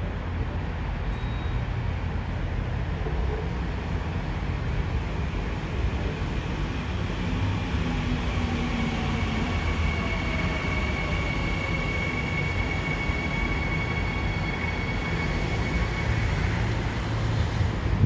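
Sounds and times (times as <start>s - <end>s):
electric train rumble: 0.0s - 18.0s.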